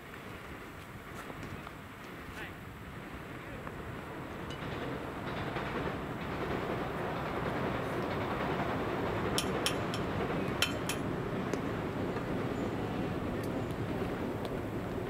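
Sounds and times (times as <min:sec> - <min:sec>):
passing train rumble: 0:02.4 - 0:15.0.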